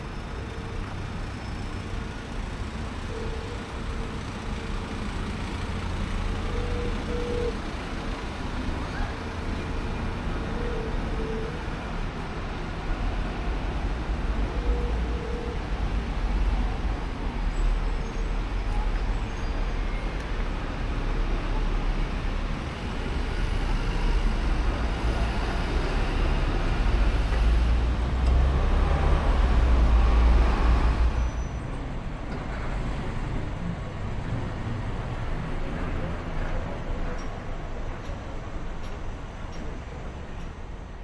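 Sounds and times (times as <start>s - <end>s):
city street traffic rumble: 0.0s - 41.0s.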